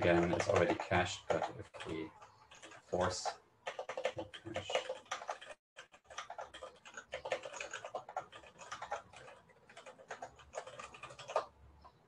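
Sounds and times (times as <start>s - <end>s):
typing on computer keyboard: 0.0s - 11.6s.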